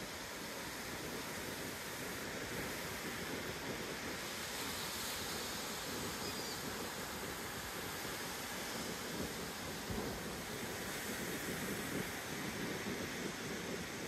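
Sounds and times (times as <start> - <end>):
ocean surf washing: 0.0 - 14.0.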